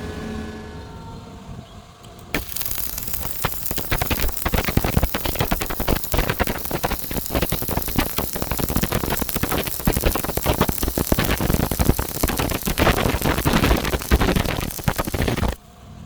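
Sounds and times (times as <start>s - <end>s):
welding arc crackling and sizzling: 2.4s - 15.6s.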